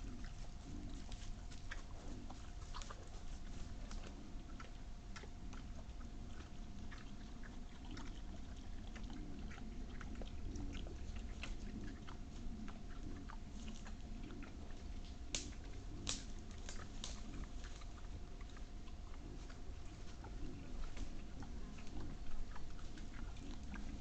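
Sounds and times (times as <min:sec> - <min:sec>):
wild boar chewing and crunching: 0:00.0 - 0:24.0.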